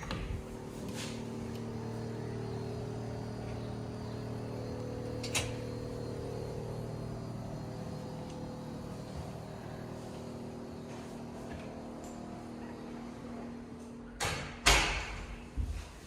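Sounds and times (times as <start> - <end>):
steady hum with held tones: 0.0 - 16.0.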